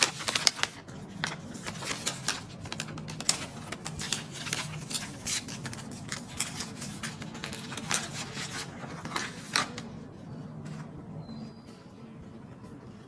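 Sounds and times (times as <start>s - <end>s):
paper rustling and crinkling: 0.0s - 11.0s
faint steady hum: 0.0s - 13.0s.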